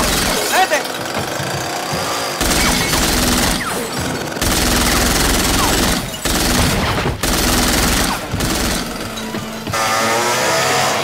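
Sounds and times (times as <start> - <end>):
chainsaw running: 0.0 - 11.0.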